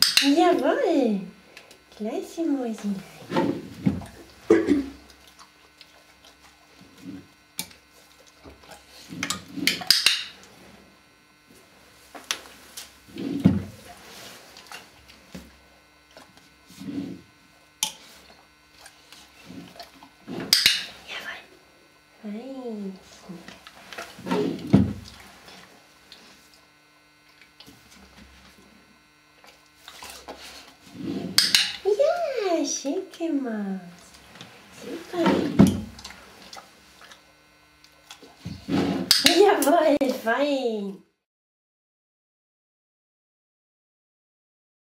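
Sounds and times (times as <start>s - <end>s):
electrical hum: 0.0s - 41.2s.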